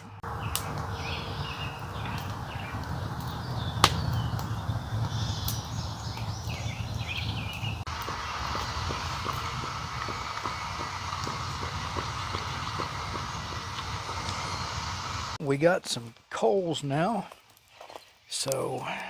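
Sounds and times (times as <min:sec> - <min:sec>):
campfire pop: 0:00.0 - 0:15.4
small birds chirping: 0:00.0 - 0:15.4
campfire burning: 0:00.0 - 0:15.5, 0:17.1 - 0:18.8.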